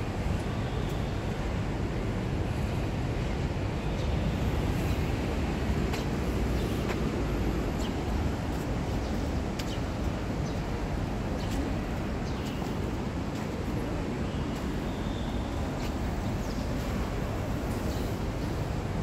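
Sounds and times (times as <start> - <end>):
distant city traffic rumble: 0.0 - 19.0.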